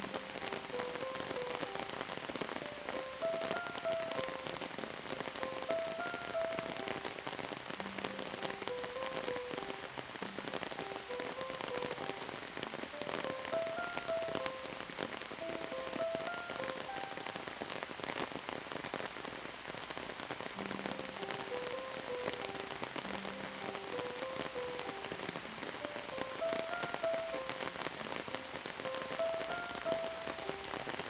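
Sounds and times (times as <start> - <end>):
soft slow melody: 0.0 - 18.2, 20.4 - 31.0
steady rain falling: 0.0 - 31.0.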